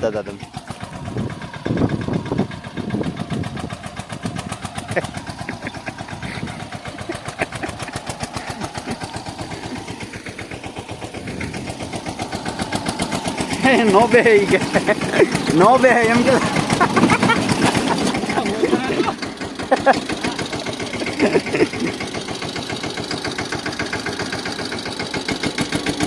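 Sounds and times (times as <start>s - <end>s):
tractor diesel engine chugging: 0.0s - 26.0s.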